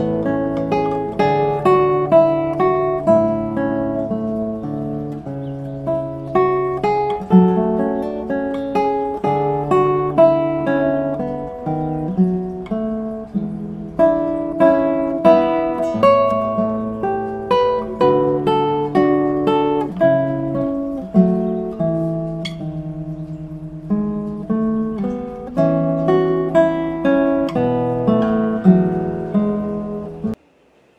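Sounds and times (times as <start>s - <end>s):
solo acoustic guitar: 0.0s - 30.4s.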